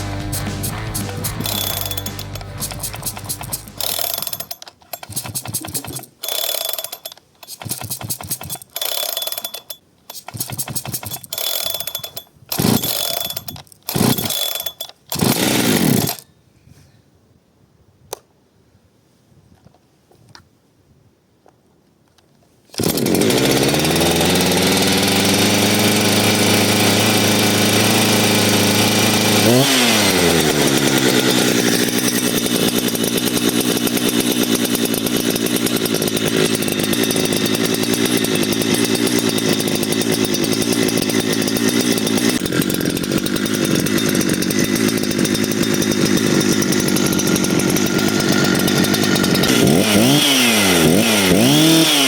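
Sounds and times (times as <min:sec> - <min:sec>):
chainsaw engine starting and idling: 0:00.0 - 0:16.3, 0:22.7 - 0:52.0
chainsaw throttle blip: 0:00.0 - 0:16.3, 0:22.7 - 0:52.0.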